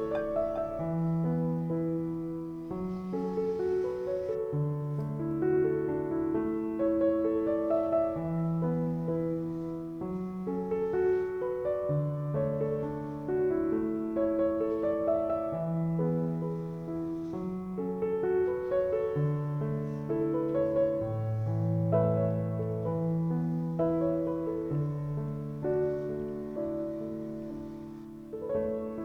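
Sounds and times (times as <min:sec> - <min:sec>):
gentle piano piece: 0:00.0 - 0:29.0.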